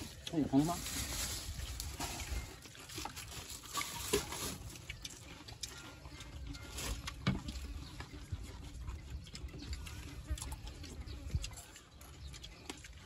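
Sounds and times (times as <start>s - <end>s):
meat tearing with wet crackles: 0.0s - 13.0s.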